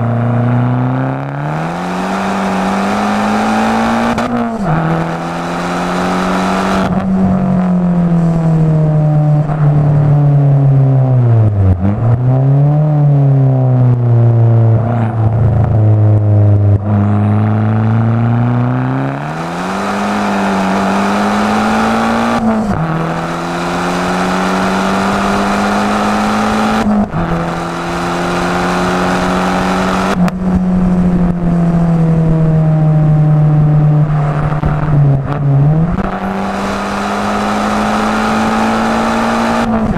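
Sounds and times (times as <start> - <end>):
car engine shifting gears: 0.0 - 39.9.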